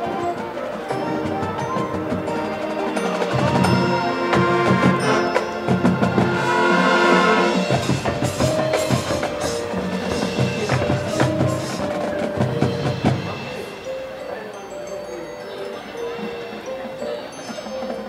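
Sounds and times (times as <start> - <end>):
marching band playing: 0.0 - 18.0.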